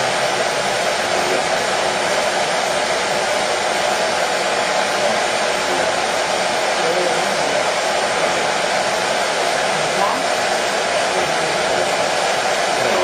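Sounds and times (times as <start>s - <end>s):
hair dryer whooshing: 0.0s - 13.0s.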